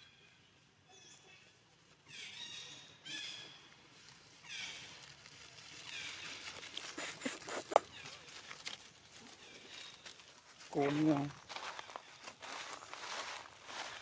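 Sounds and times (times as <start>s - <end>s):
dry leaves crackling underfoot: 1.8s - 14.0s.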